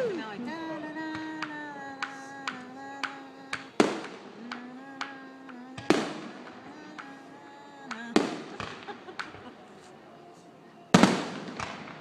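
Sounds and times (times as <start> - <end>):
fireworks bangs: 0.0 - 10.0, 10.9 - 12.0
fireworks cracking: 0.0 - 10.0, 10.9 - 12.0
tune on long steady notes: 0.0 - 12.0.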